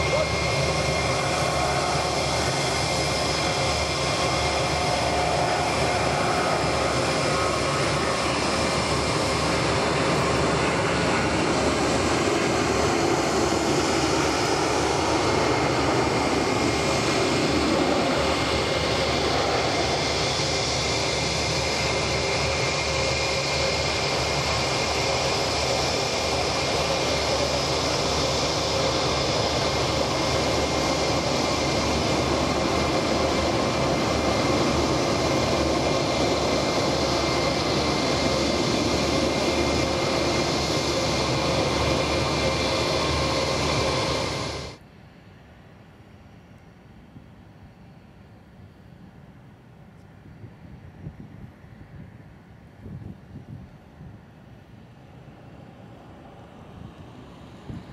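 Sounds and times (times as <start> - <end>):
jet engines rushing: 0.0 - 44.8, 50.1 - 57.9.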